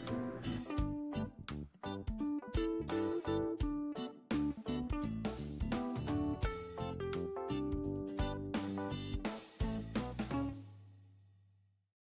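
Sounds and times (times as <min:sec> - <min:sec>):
plucked instrumental music: 0:00.0 - 0:10.7.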